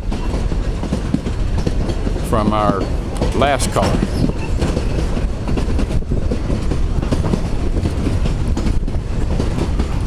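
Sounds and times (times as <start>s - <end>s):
train cars rumbling on track: 0.0s - 10.0s
wheel clatter and knocks: 0.0s - 10.0s.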